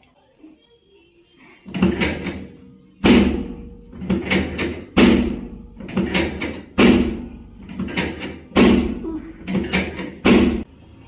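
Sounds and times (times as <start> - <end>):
heavy rhythmic thuds: 1.7 - 10.7.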